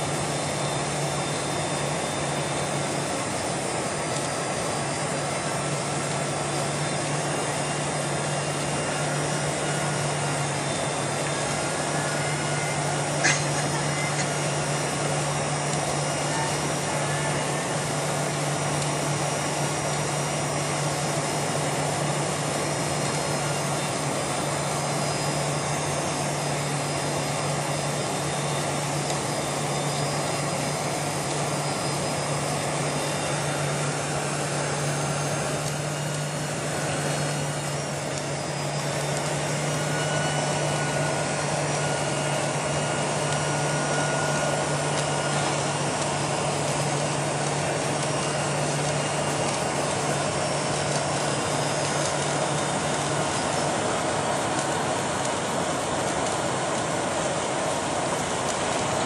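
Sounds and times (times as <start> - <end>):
airflow rush in plane cabin: 0.0 - 59.0
jet engines running: 0.0 - 59.0.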